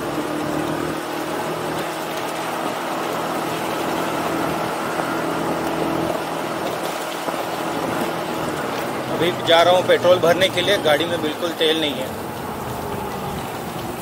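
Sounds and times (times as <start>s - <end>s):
road noise: 0.0s - 14.0s
scooter engine running: 0.0s - 14.0s.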